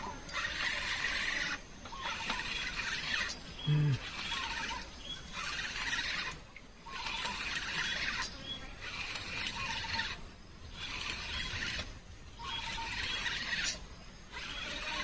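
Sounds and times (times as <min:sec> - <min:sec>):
buzzing animal call: 0:00.0 - 0:15.0.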